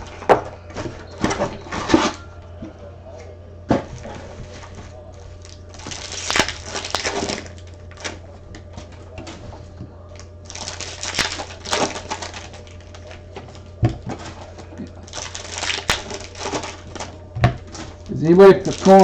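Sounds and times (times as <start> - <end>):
card packaging crinkling: 3.7 - 19.0.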